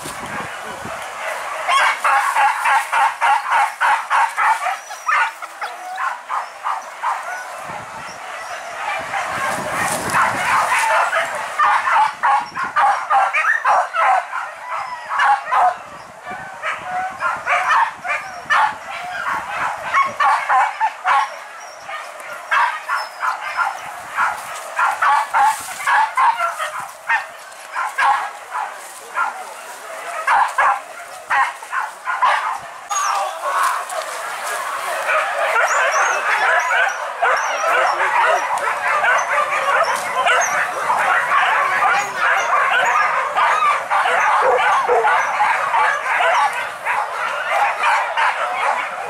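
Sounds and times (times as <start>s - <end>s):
dog barking rapidly: 0.0s - 49.0s.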